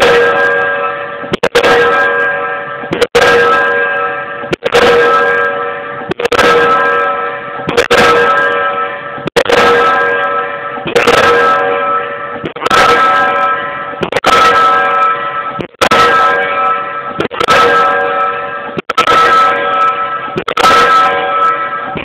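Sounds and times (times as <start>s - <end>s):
metallic ringing: 0.0s - 22.0s
pile hammer blows: 0.0s - 22.0s.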